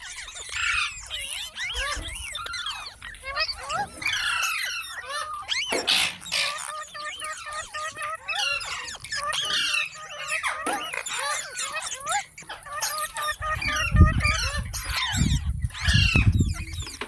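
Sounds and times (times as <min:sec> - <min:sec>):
parrot chattering: 0:00.1 - 0:17.0.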